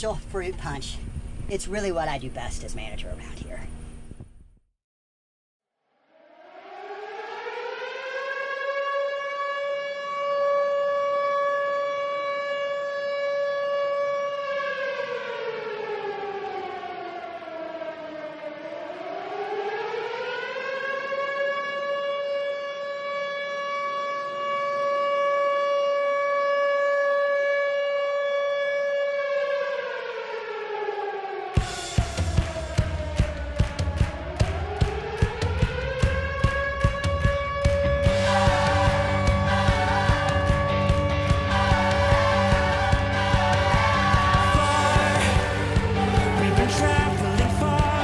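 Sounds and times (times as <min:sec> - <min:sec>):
warning siren wailing: 0:06.0 - 0:48.0.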